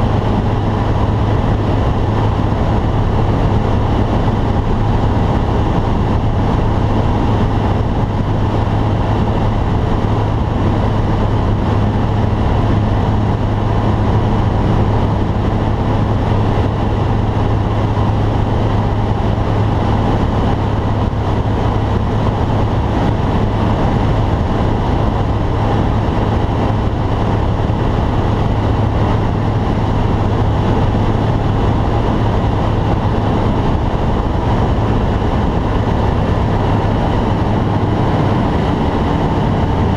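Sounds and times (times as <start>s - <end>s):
light aircraft engine and propeller drone: 0.0s - 39.9s
rushing air: 0.0s - 39.9s.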